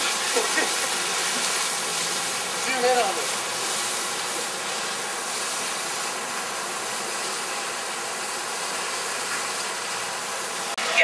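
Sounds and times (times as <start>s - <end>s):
water pouring over weir: 0.0s - 10.8s.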